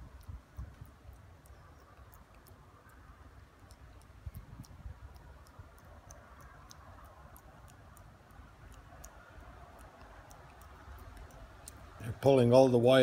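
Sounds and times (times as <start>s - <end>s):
faint small clicks: 0.0s - 12.0s.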